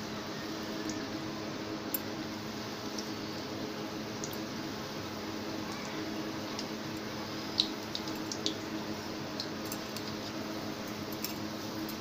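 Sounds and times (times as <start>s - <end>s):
dough frying in oil: 0.0s - 12.0s
faint steady hum: 0.0s - 12.0s.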